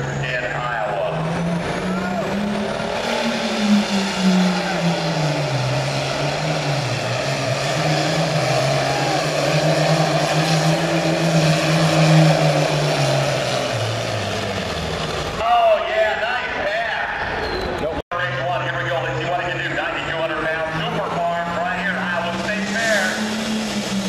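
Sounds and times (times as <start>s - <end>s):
diesel tractor engine droning: 0.0s - 24.0s.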